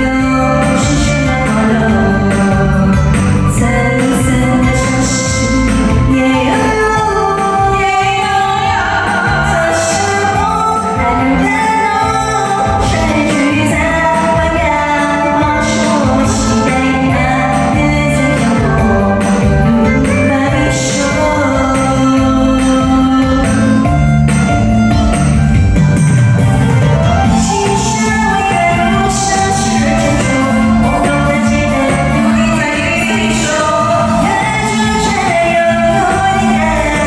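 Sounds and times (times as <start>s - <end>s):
person singing: 0.0s - 25.3s, 26.8s - 37.0s
pop instrumental backing: 0.0s - 37.0s.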